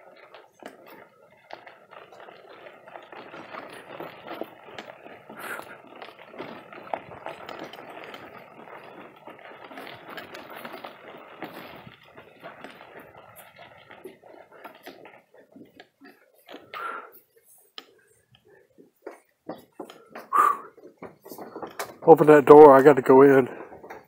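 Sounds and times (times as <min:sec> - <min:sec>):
gravel crunching: 0:00.0 - 0:24.0.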